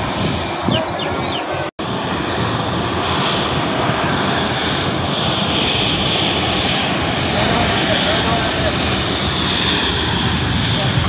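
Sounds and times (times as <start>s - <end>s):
jet airliner engine rush: 0.0s - 11.0s.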